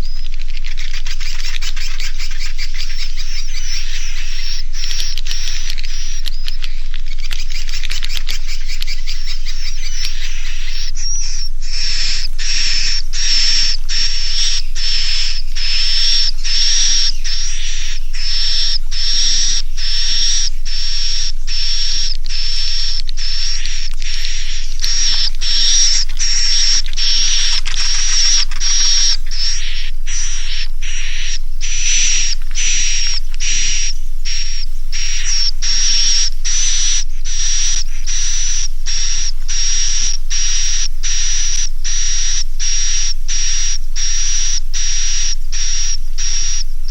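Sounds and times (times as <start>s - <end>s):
buzzy high bird chirps: 0.0s - 46.9s.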